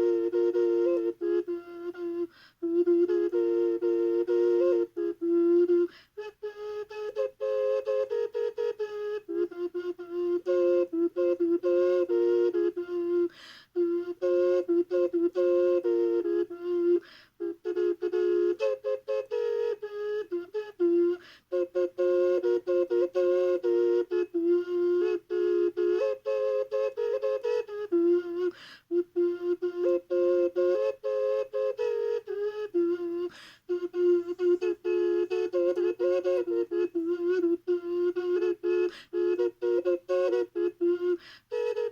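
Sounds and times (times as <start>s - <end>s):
ocarina drone and melody: 0.0s - 41.9s.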